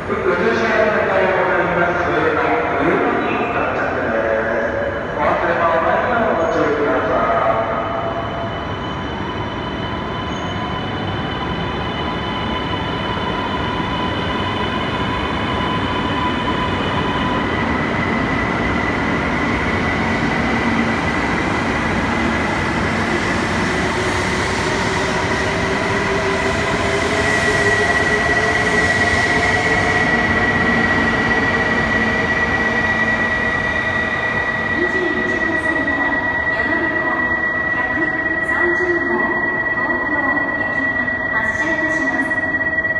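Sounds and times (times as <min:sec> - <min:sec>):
train wheels rumbling on rail: 0:00.0 - 0:40.8.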